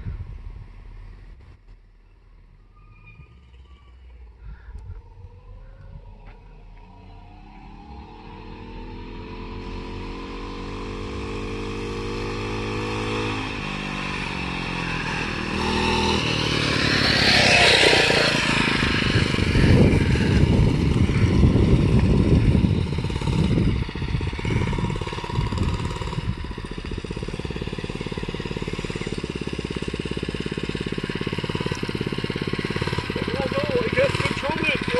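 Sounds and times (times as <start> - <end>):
mini bike engine running: 6.3 - 34.9.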